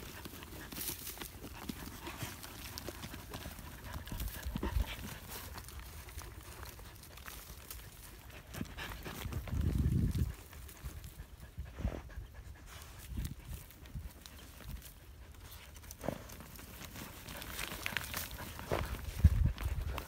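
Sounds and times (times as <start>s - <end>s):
paws scraping dry soil: 0.0s - 20.0s.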